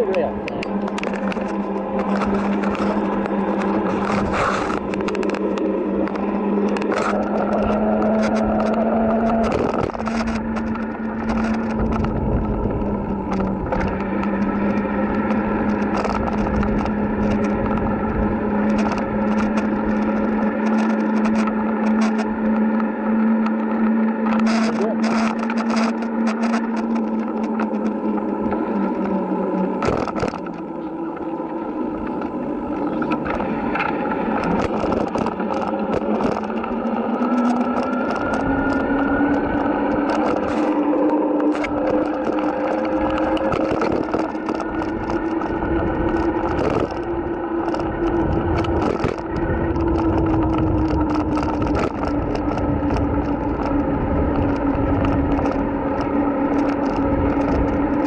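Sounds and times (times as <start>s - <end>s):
rattles and clicks: 0.0s - 31.3s, 32.0s - 58.0s
electric bike motor whining: 0.0s - 58.0s
rumble of wind and tyres: 0.0s - 58.0s.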